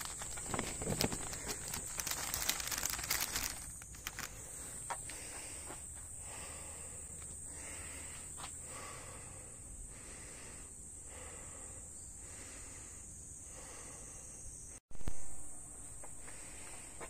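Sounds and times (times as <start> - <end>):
insects buzzing: 0.0 - 14.8.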